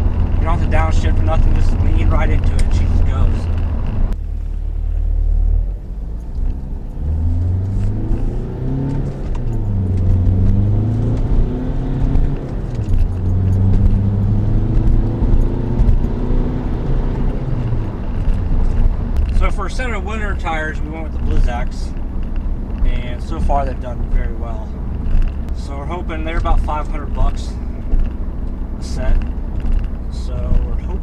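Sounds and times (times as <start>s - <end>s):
car engine accelerating through gears: 0.0s - 31.0s.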